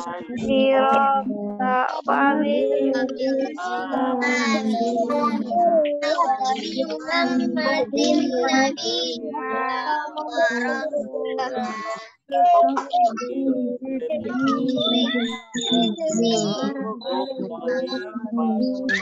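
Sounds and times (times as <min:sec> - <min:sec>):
children chanting a prayer: 0:00.0 - 0:19.0.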